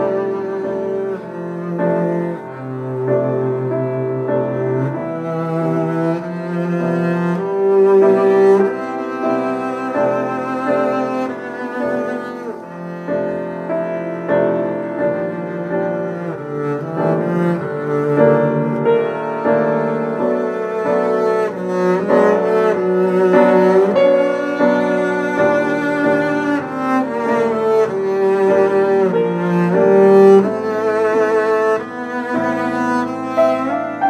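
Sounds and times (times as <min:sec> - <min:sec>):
bowed double bass melody: 0:00.0 - 0:34.0.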